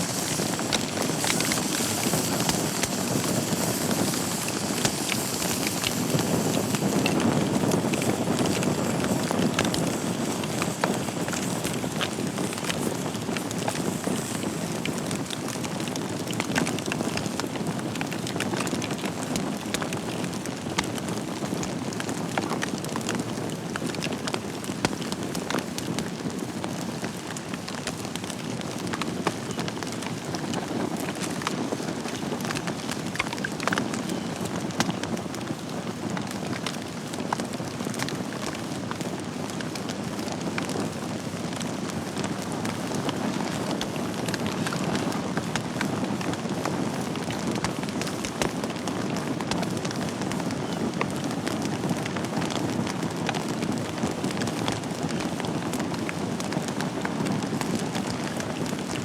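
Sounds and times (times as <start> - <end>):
burning logs crackling: 0.0 - 59.0
fire flames rushing: 0.0 - 59.0.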